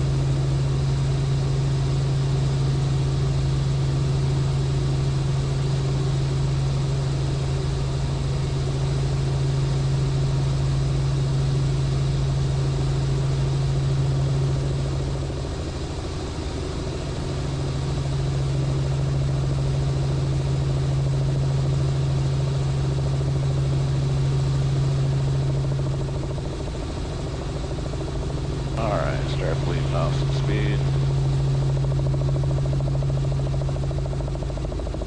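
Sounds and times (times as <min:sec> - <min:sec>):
helicopter drone from cabin: 0:00.0 - 0:35.0.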